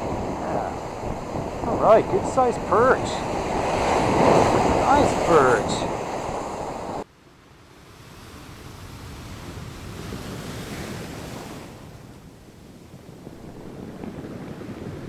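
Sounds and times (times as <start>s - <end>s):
wind on microphone: 0.0s - 7.1s, 7.8s - 15.0s
wave washing in: 0.0s - 15.0s.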